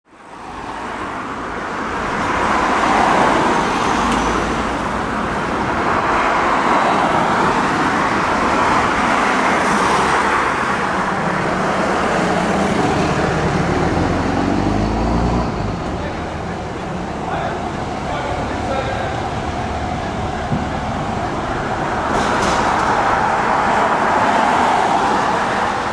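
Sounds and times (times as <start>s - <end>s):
road traffic noise: 0.0s - 25.9s.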